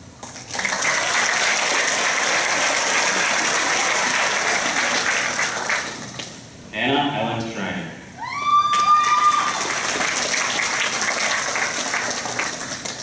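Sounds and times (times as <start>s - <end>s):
audience applauding: 0.3s - 6.3s, 8.6s - 13.0s.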